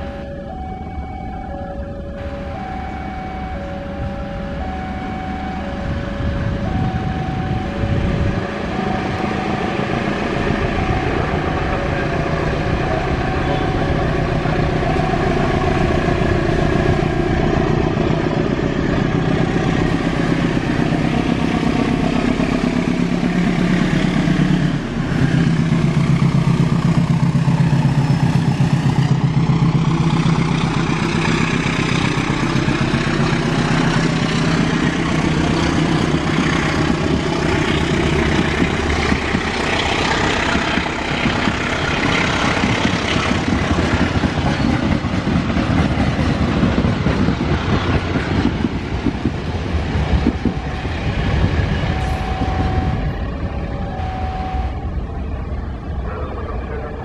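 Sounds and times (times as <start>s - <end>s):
diesel locomotive engine droning: 0.0s - 57.0s
train wheels rolling on rails: 6.3s - 54.7s.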